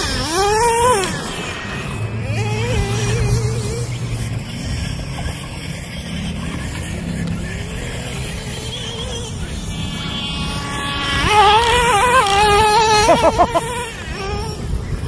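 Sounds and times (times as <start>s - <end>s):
rc truck engine buzzing: 0.0s - 15.0s.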